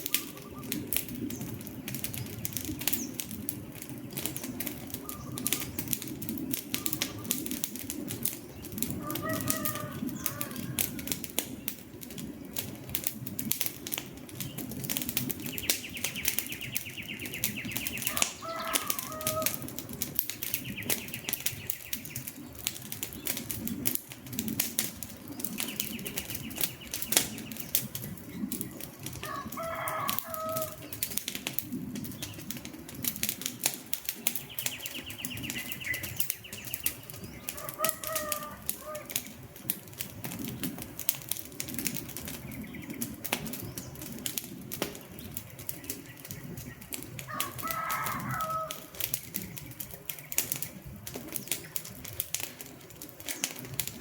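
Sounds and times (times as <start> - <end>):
bird calls: 0.0 - 11.8, 14.3 - 23.7, 25.0 - 32.7, 33.5 - 39.7, 41.8 - 44.3, 44.9 - 52.2
campfire crackling: 0.0 - 54.0
low rumble of flames: 0.0 - 54.0.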